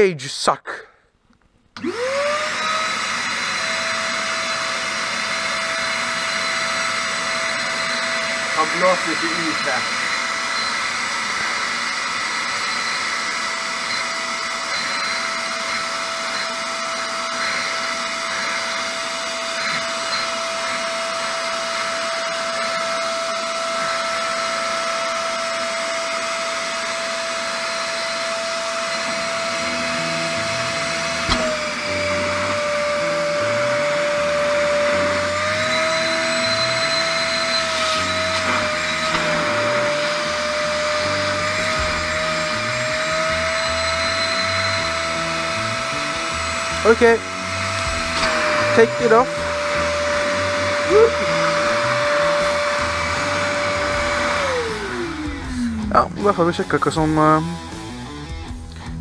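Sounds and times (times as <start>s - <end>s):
vacuum cleaner running: 1.8s - 58.2s.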